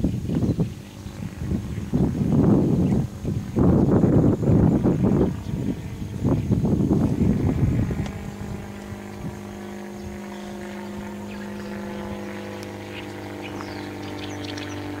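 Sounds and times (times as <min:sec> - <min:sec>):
engine drone: 0:00.0 - 0:15.0
wind buffeting microphone: 0:00.0 - 0:15.0.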